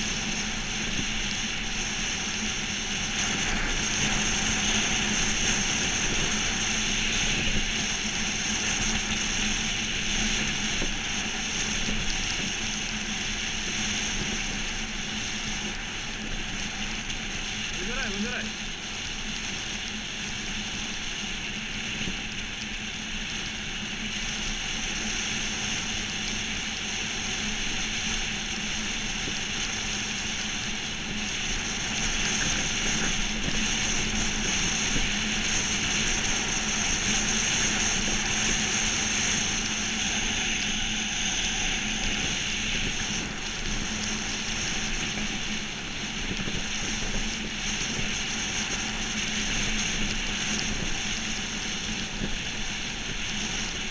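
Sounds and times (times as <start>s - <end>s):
wind: 0.0s - 53.9s.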